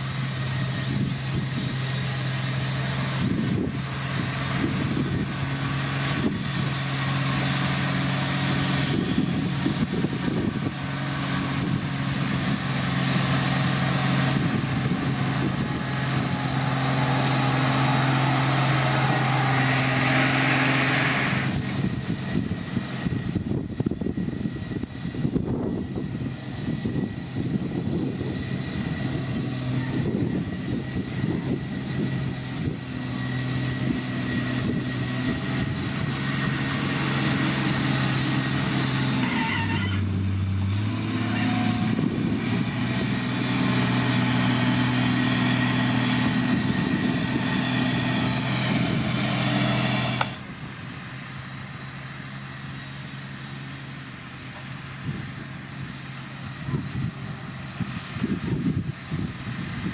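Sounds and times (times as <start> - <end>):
heavy diesel machinery engine: 0.0 - 59.9.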